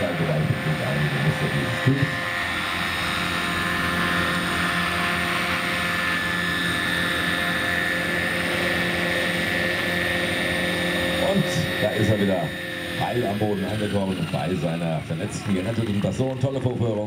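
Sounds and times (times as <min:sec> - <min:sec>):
high motor whine: 0:00.0 - 0:17.0
model helicopter rotor whir: 0:00.0 - 0:17.0.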